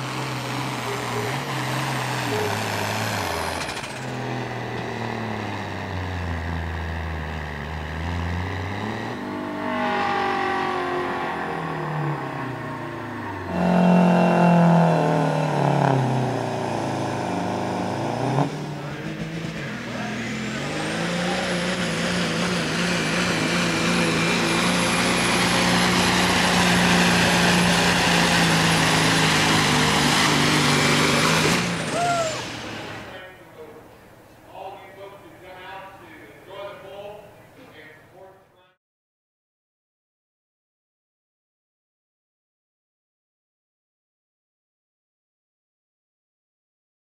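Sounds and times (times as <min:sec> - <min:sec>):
diesel truck engines under load: 0:00.0 - 0:38.6.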